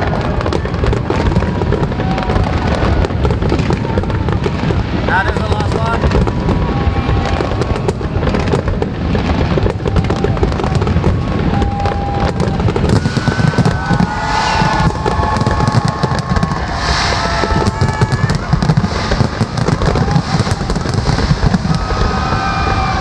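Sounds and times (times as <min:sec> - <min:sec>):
fireworks bangs and crackling: 0:00.0 - 0:23.0
low rumble of booms: 0:00.0 - 0:23.0.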